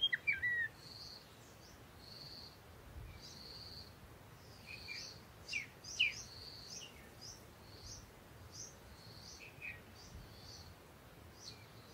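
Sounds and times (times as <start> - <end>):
bird chirping: 0.0 - 11.9.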